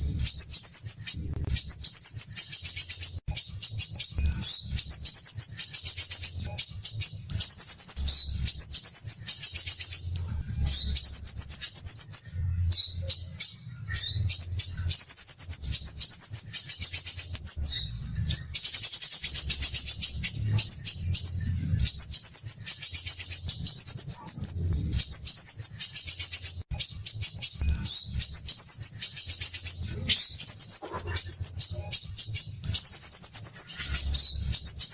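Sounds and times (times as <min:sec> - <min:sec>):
bird singing harsh trills: 0:00.0 - 0:34.9.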